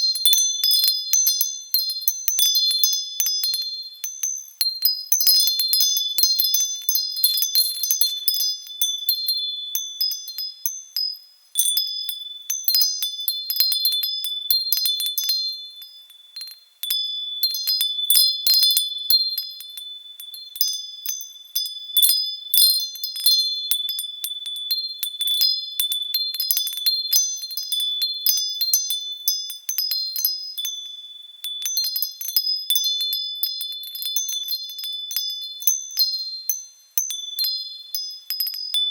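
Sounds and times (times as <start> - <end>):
wind chimes ringing: 0.0 - 38.9.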